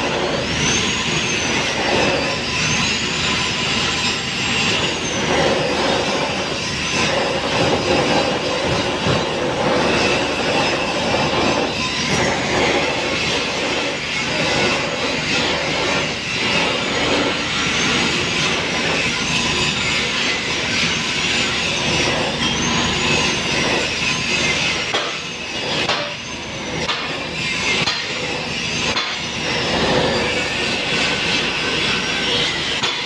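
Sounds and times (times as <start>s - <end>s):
angle grinder grinding steel: 0.0s - 33.0s.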